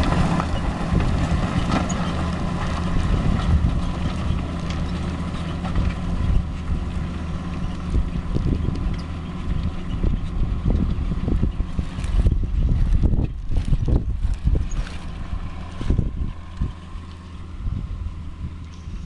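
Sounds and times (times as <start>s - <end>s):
tractor engine running under load: 0.0s - 19.0s
wind buffeting microphone: 0.0s - 19.0s.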